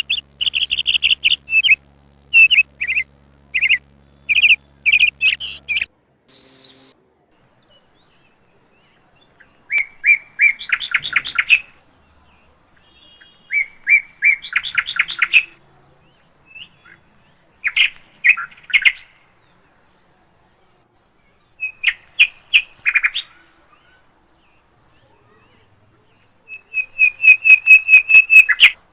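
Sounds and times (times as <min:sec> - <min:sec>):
songbird singing: 0:00.0 - 0:07.0, 0:07.6 - 0:20.0, 0:21.1 - 0:28.8.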